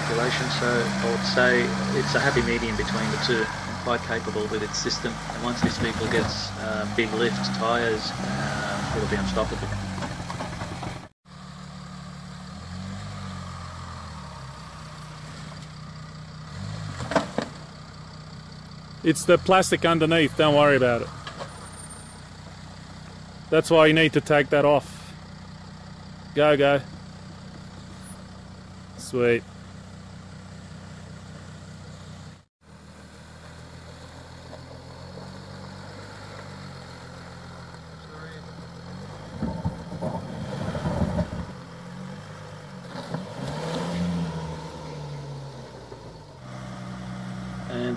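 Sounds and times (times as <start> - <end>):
diesel engine running at low revs: 0.0 - 47.9.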